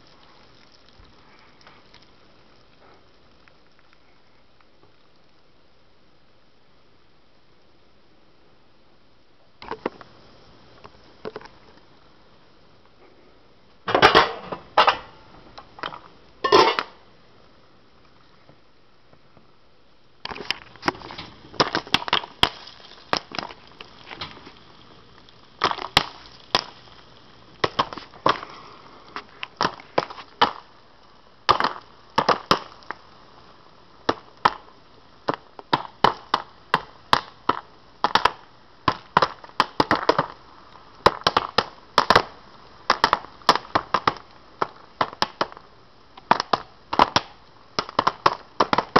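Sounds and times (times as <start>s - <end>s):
popcorn popping in a pan: 0.0s - 5.6s, 9.6s - 12.1s, 13.8s - 17.1s, 20.1s - 48.9s.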